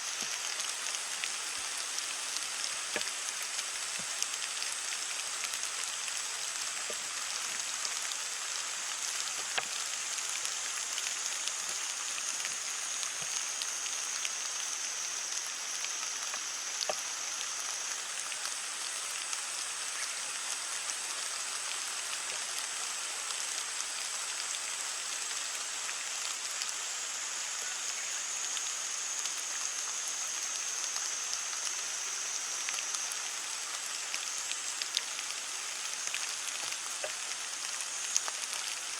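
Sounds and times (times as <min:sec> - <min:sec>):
heavy rain on leaves: 0:00.0 - 0:38.9.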